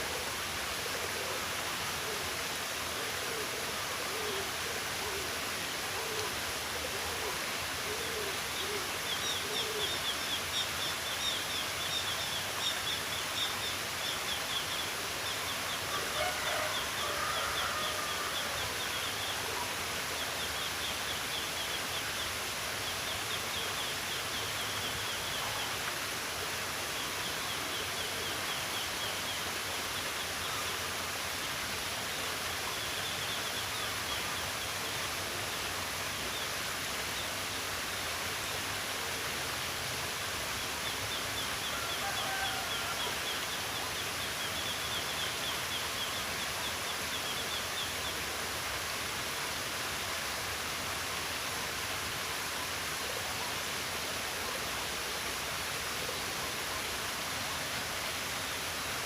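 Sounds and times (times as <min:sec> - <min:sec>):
flowing stream water: 0:00.0 - 0:59.0.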